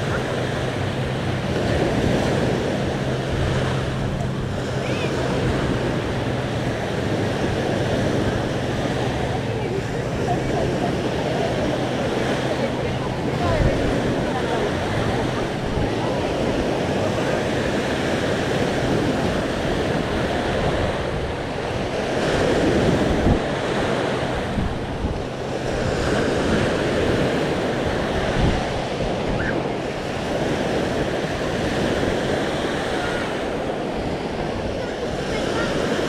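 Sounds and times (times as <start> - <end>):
small waves washing on shore: 0.0 - 36.0
wind buffeting microphone: 0.0 - 36.0.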